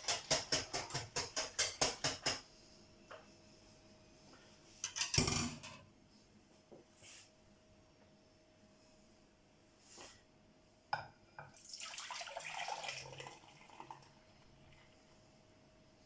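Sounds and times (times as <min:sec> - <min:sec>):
faint steady hum: 0:02.4 - 0:16.0.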